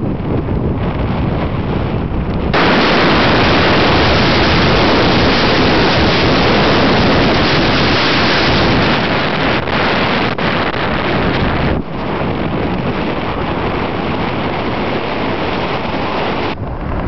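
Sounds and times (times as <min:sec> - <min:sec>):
tyres on dirt road: 0:00.0 - 0:17.0
wind over microphone: 0:00.0 - 0:17.0.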